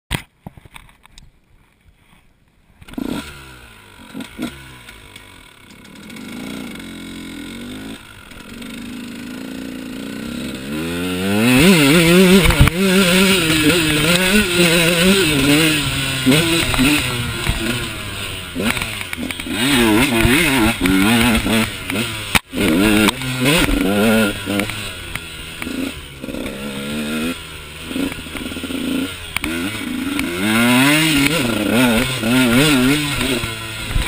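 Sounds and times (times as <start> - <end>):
dirt bike engine revving: 2.8 - 34.0.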